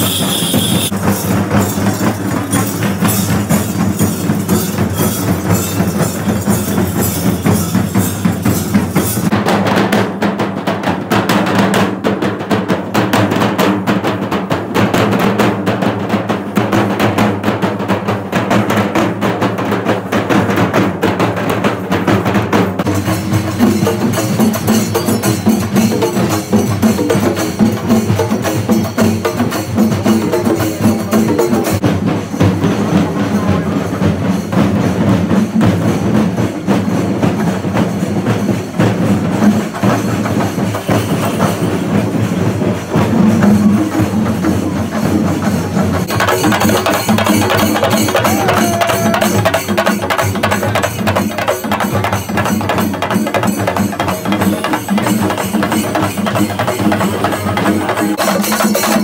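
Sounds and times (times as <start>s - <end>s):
drums beaten fast with sticks: 0.0s - 59.0s.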